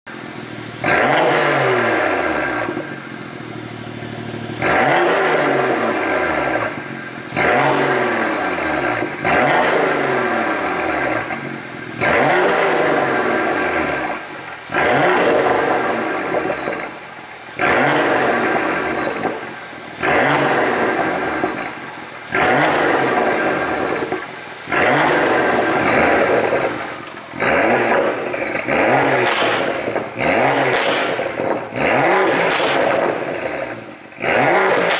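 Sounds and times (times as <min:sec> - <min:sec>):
car engine revving: 0:00.1 - 0:34.9
exhaust popping and crackling: 0:00.1 - 0:34.9.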